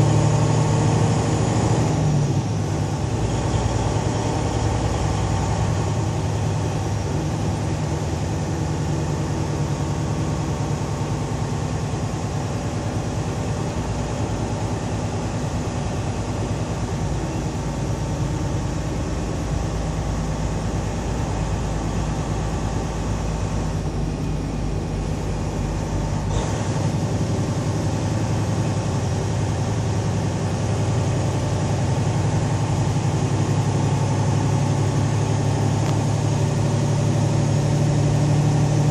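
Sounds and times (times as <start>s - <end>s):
road noise: 0.0s - 38.9s
truck engine droning: 0.0s - 38.9s.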